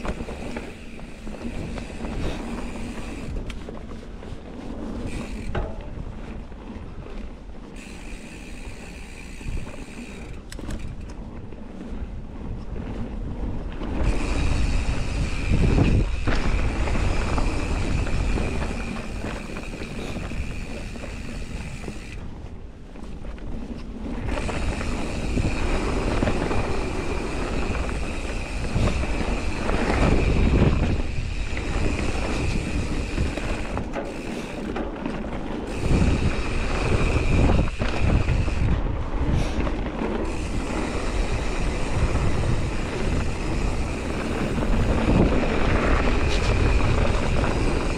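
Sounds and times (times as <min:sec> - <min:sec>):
freewheeling hub buzz: 0:00.0 - 0:06.4, 0:07.6 - 0:11.2, 0:13.6 - 0:22.4, 0:23.3 - 0:47.9
bike tyre rumble: 0:00.0 - 0:47.9
wind buffeting microphone: 0:00.0 - 0:47.9.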